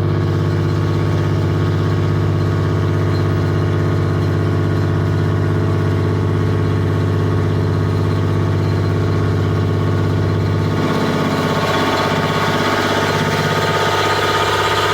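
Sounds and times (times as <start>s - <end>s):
engine droning hum: 0.0s - 14.9s.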